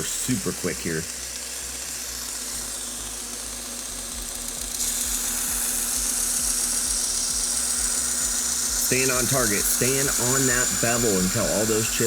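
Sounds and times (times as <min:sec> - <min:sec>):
belt grinder motor humming: 0:00.0 - 0:12.0.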